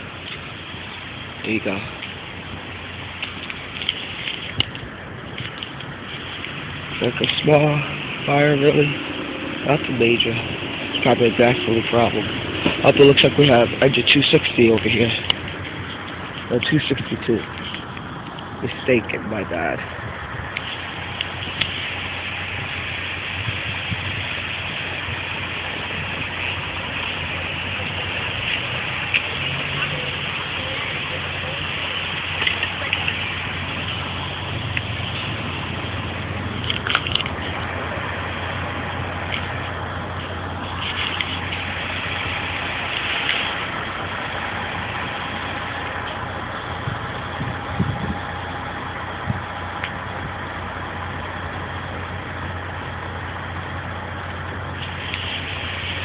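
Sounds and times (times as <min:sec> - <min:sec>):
diesel engine idling: 0:00.0 - 0:56.0
street noise hiss: 0:00.0 - 0:56.0.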